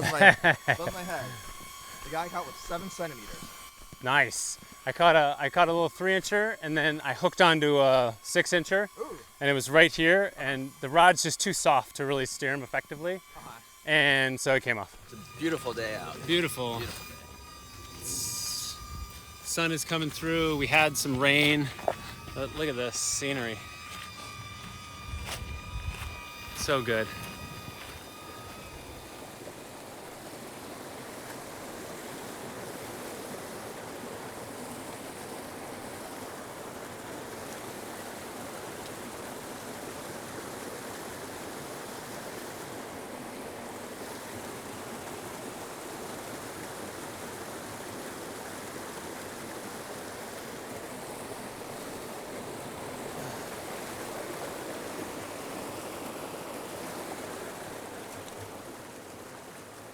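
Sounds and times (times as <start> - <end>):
creek flowing: 0.0 - 59.9.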